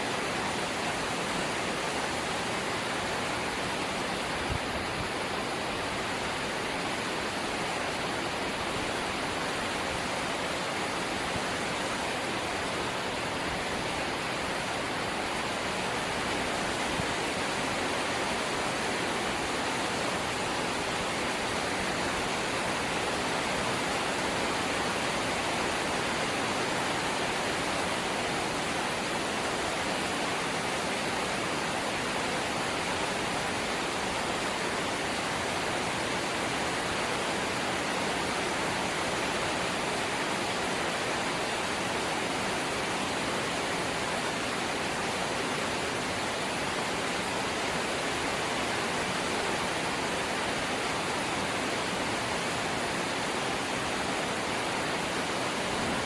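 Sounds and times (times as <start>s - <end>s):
steady light rain: 0.0s - 56.0s.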